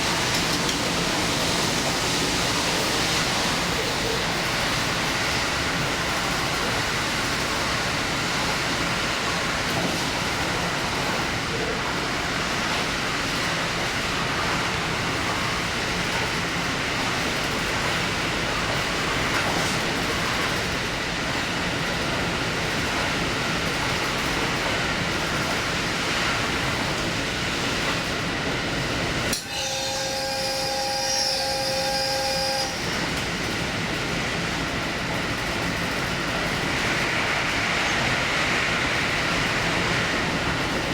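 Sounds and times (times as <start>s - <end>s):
diesel train running at speed: 0.0s - 40.9s.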